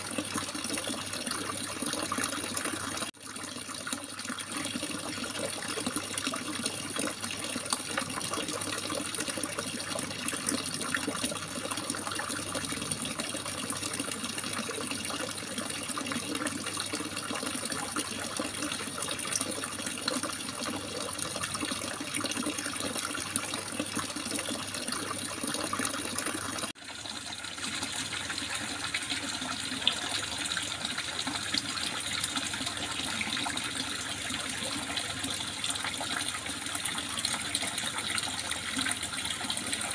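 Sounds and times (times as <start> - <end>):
water gurgling and splashing: 0.0 - 39.9.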